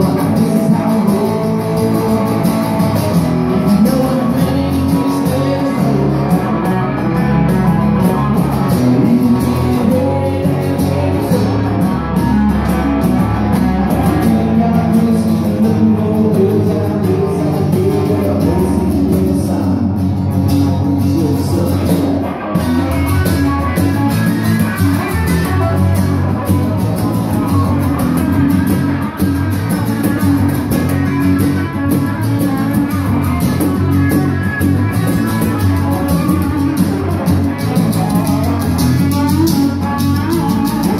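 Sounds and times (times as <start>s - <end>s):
cajon: 0.0s - 40.9s
electric bass: 0.0s - 40.9s
man singing: 0.0s - 40.9s
strummed acoustic guitar: 0.0s - 40.9s.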